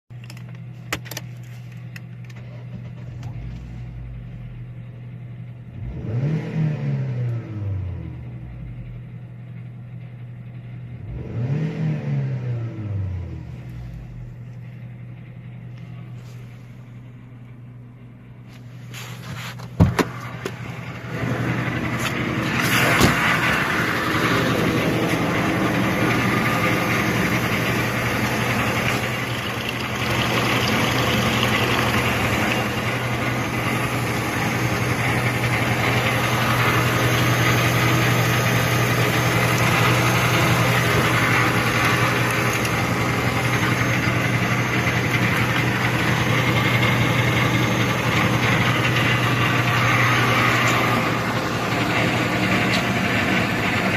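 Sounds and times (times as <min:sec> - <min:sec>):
car engine idling: 0:00.1 - 0:06.4, 0:07.1 - 0:11.6, 0:12.5 - 0:53.9.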